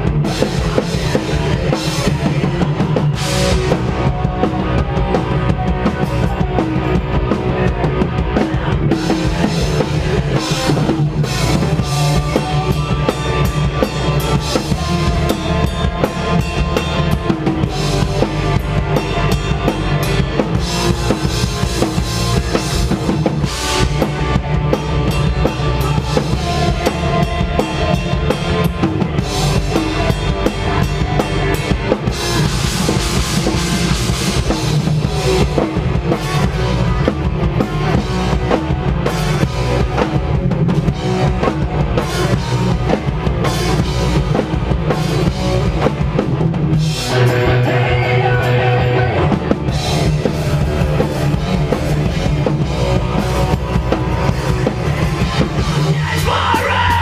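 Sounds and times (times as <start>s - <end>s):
hardcore band playing live: 0.0s - 57.0s.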